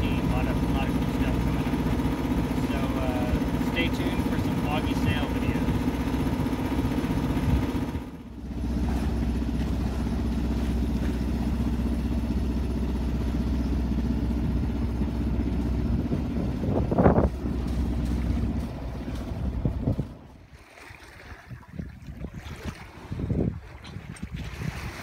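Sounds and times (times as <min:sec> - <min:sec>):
boat engine droning: 0:00.0 - 0:25.0
rush of wind or water: 0:00.0 - 0:25.0.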